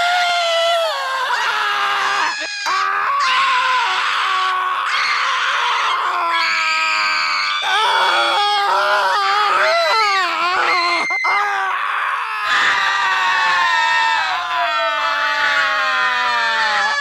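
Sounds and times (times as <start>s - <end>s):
children screaming: 0.0s - 17.0s.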